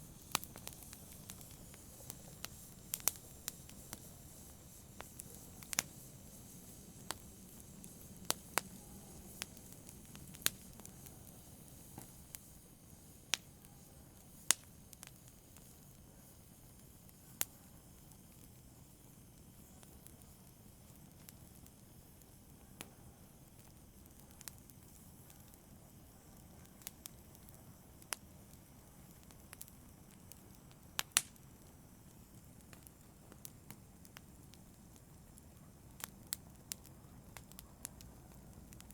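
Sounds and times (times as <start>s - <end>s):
faint steady hiss: 0.0s - 38.9s
wood fire crackling: 0.0s - 38.9s.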